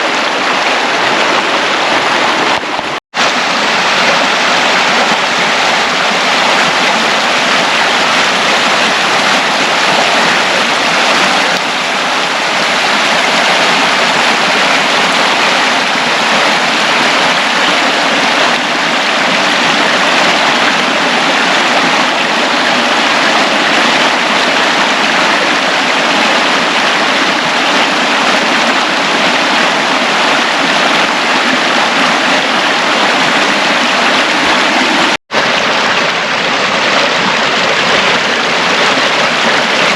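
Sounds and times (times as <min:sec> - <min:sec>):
creek rushing over rapids: 0:00.0 - 0:39.9.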